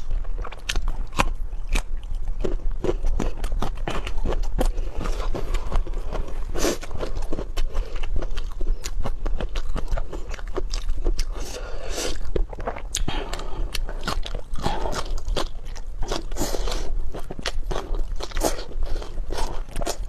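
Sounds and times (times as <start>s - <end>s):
crunchy food chewing: 0.0s - 20.0s.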